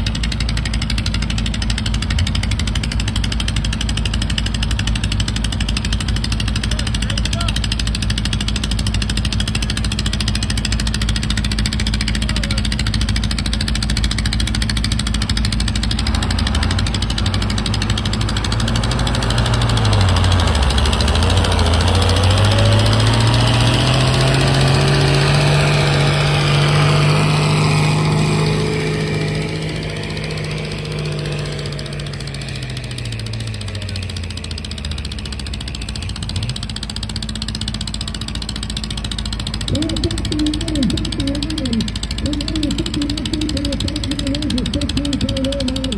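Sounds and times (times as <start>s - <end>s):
garden tractor engine under load: 0.0s - 45.9s.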